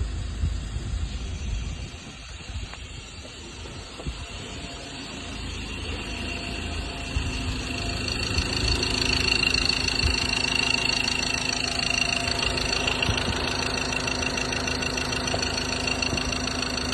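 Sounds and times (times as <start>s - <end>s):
diesel engine rumbling: 0.0s - 16.9s.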